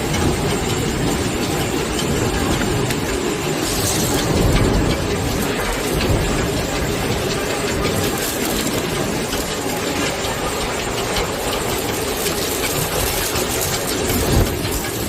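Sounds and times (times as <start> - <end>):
industrial machine drone: 0.0 - 15.0
level machine hum: 0.0 - 15.0.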